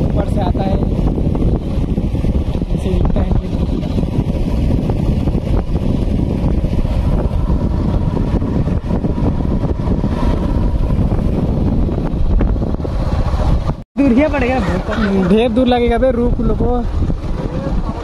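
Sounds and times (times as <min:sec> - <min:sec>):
moving vehicle rumble: 0:00.0 - 0:18.0
wind buffeting microphone: 0:00.0 - 0:18.0.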